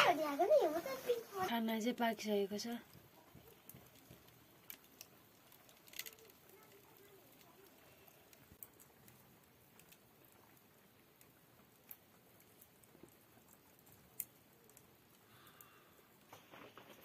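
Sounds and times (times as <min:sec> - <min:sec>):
faint clicks: 0:02.9 - 0:17.0.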